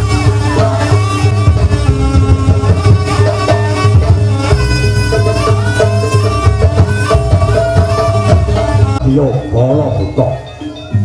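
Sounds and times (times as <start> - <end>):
heavy drums beating: 0.0 - 9.1
held melody line: 0.0 - 11.0.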